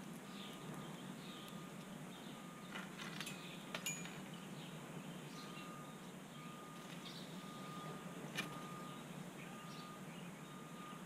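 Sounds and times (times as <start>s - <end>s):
distant bird chirps: 0.2s - 11.0s.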